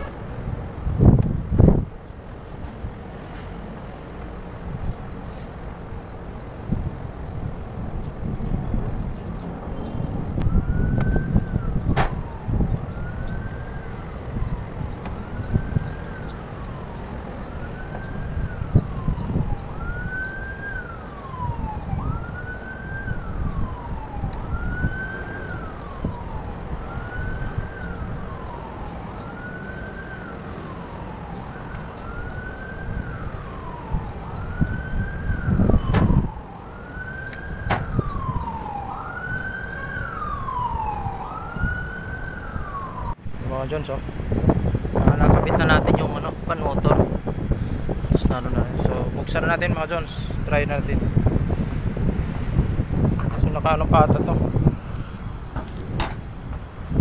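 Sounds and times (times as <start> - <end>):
emergency vehicle siren wailing: 0.0 - 57.0.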